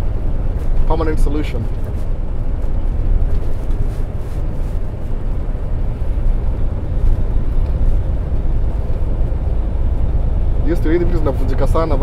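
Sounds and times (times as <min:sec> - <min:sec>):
truck engine low rumble: 0:00.0 - 0:12.0.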